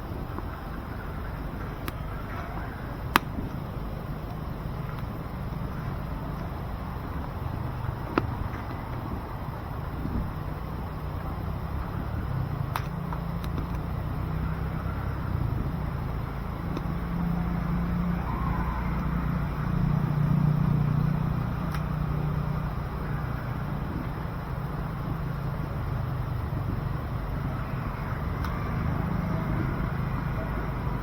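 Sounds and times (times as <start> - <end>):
fire crackles: 0.0 - 31.0
stove fire rumbling: 0.0 - 31.0.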